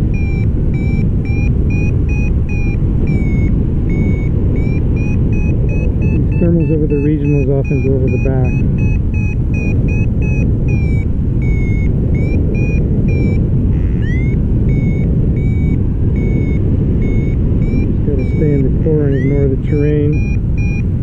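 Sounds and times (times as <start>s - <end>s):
variometer beeps: 0.0s - 21.0s
wind rushing over microphone: 0.0s - 21.0s
rising electronic chirp: 0.1s - 20.8s.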